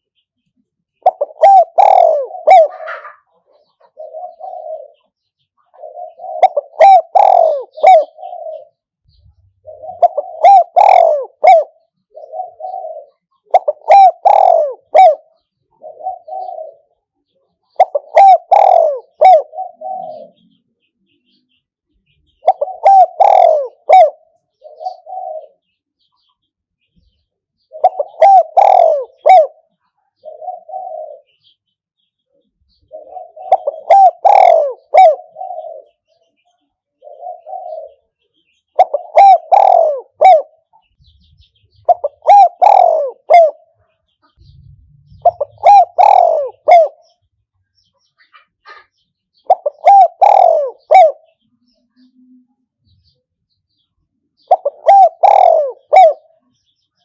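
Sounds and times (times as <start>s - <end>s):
dove cooing: 1.0s - 20.7s, 22.0s - 26.3s, 27.6s - 31.6s, 32.3s - 47.3s, 48.0s - 53.1s, 54.4s - 57.0s.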